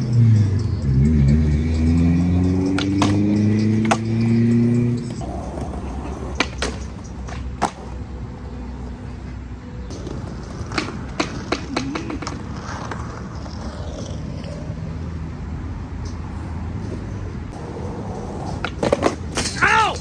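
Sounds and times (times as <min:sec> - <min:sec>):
skateboard clacking on ground: 0:00.0 - 0:14.7, 0:16.0 - 0:20.0
skateboard wheels rolling on concrete: 0:00.0 - 0:20.0.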